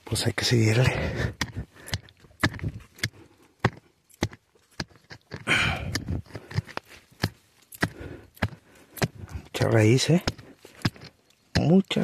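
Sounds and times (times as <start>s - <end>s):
dirt scraping: 0.0s - 12.0s
digging tool striking soil: 0.8s - 12.0s.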